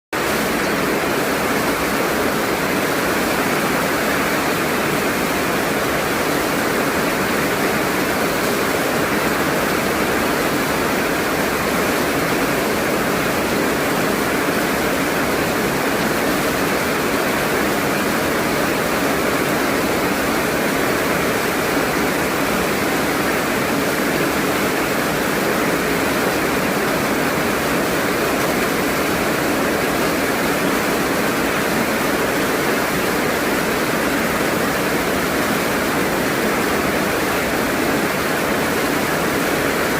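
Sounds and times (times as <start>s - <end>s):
heavy rain falling: 0.2s - 39.9s.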